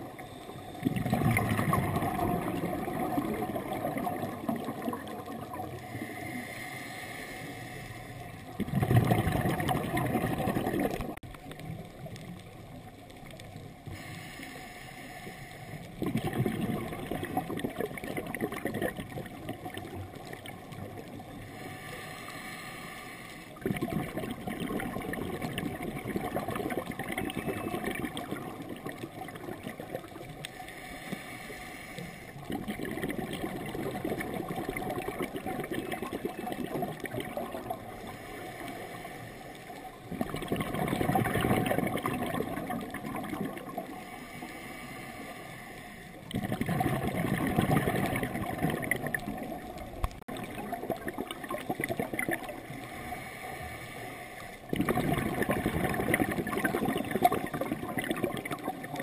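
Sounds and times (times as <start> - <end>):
quiet underwater noise: 0.0 - 59.0
underwater exhale bubbles gurgling: 0.0 - 59.0.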